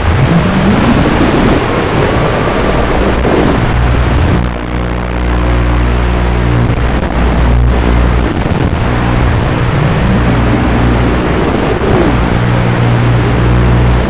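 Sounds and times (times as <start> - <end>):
quadcopter propellers buzzing: 0.0 - 14.0
steady rushing noise: 0.0 - 14.0.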